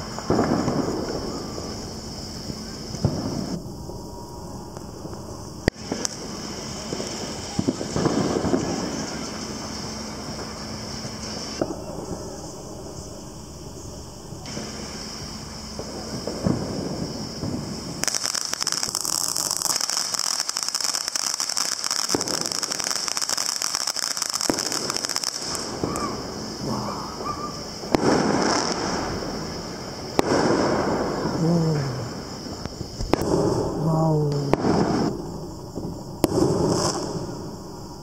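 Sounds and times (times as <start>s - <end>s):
sharp firework bangs: 0.0s - 3.6s, 5.6s - 12.6s, 14.4s - 37.6s
firework cake crackling pops: 0.0s - 4.0s, 4.7s - 12.3s, 14.4s - 37.5s
firework fountain hissing: 0.0s - 38.0s.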